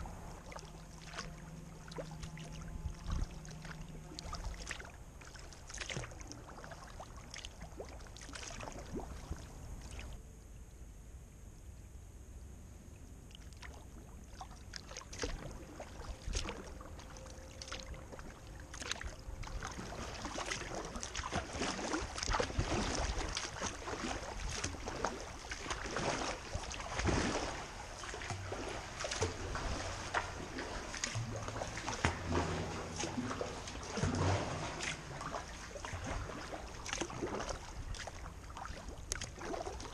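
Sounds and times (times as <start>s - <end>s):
kayak paddle splashing in water: 0.0s - 10.2s, 13.3s - 39.9s
water sloshing along hull: 0.0s - 11.3s, 12.2s - 39.9s.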